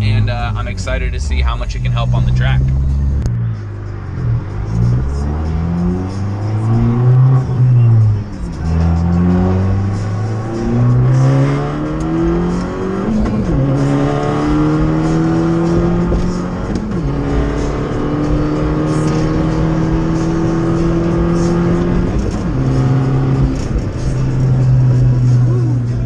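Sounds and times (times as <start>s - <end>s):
car engine accelerating through gears: 1.7s - 26.0s.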